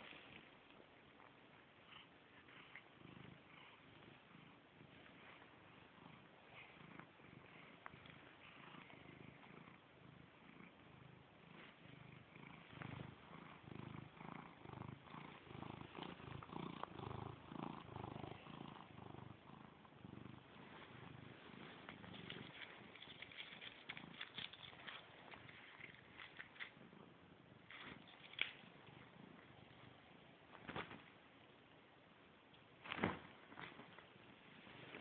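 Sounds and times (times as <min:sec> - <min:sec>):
cat purring: 0:00.0 - 0:31.8.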